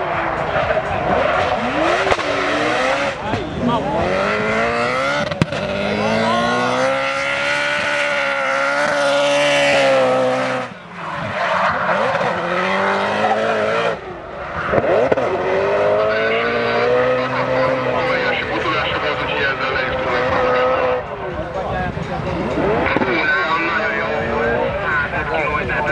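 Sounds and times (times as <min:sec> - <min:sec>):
car engine at high revs: 0:00.0 - 0:25.9.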